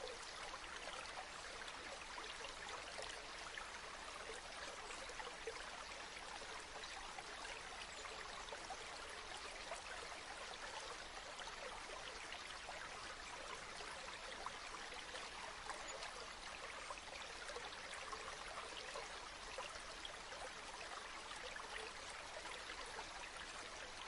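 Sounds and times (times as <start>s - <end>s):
river water babbling: 0.0s - 24.0s.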